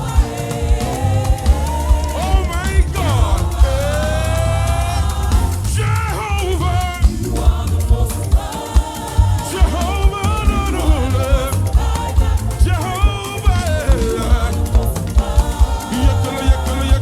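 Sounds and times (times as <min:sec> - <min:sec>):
band with bass and drums: 0:00.0 - 0:17.0
voices singing gospel: 0:00.0 - 0:17.0.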